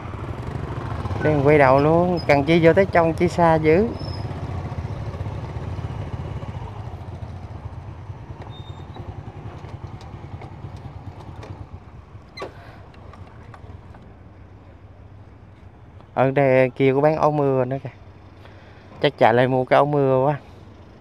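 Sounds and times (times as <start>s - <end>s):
motorbike engine low rumble: 0.0s - 21.0s.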